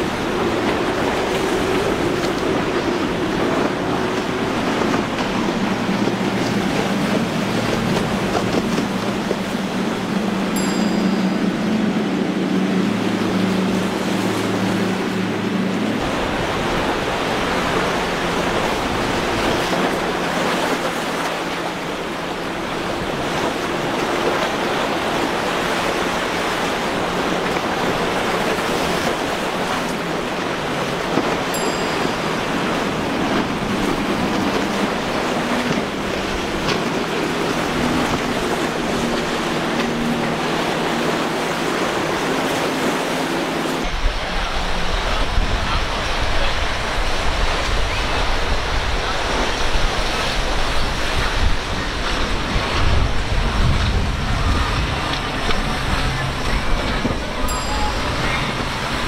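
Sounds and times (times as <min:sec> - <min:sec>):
outboard boat engines droning: 0:00.0 - 0:59.0
surf: 0:00.0 - 0:59.0
wind: 0:00.0 - 0:59.0.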